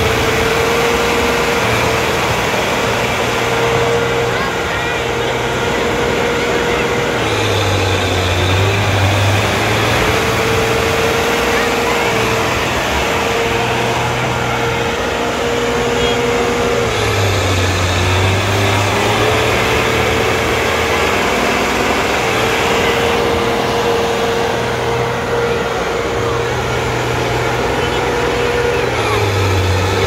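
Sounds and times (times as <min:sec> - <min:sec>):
tractor engine running hard: 0:00.0 - 0:30.0.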